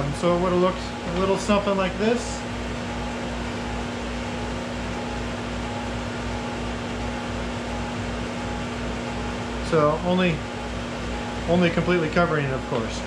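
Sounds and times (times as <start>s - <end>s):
laser engraver hum and fan hiss: 0.0s - 13.0s.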